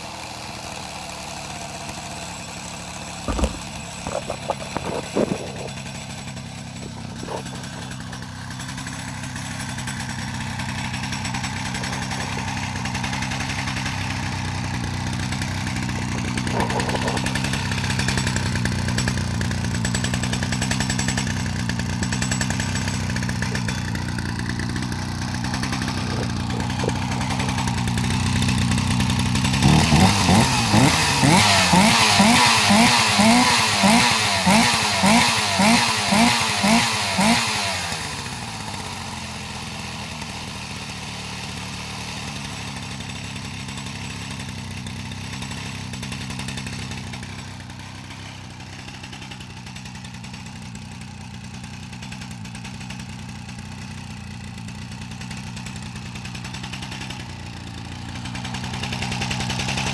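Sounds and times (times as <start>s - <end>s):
chainsaw engine idling: 0.0s - 59.9s
chainsaw throttle blips: 0.0s - 59.9s.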